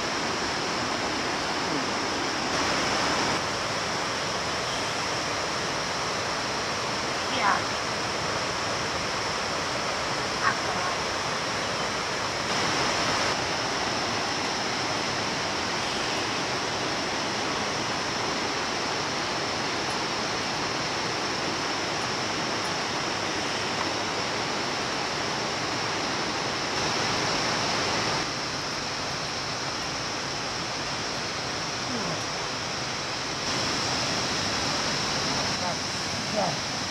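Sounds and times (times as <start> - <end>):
stream running over rocks: 0.0 - 36.9.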